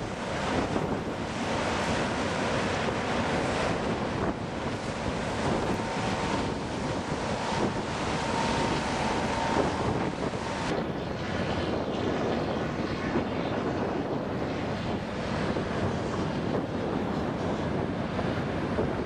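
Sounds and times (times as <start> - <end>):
boat engine and water wash: 0.0 - 19.0
wind buffeting microphone: 0.0 - 19.0.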